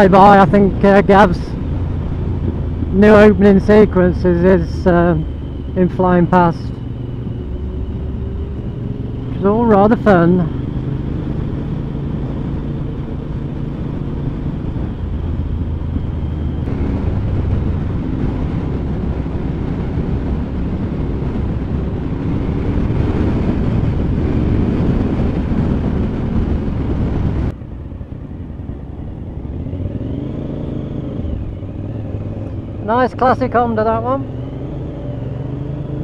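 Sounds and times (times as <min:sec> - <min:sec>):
motorcycle engine running: 0:00.0 - 0:36.0
wind rush: 0:00.0 - 0:36.0.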